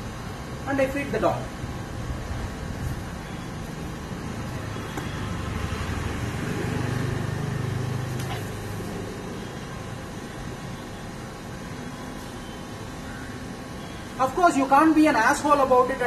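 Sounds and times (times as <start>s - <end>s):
vehicle engine rumble: 0.0s - 14.2s.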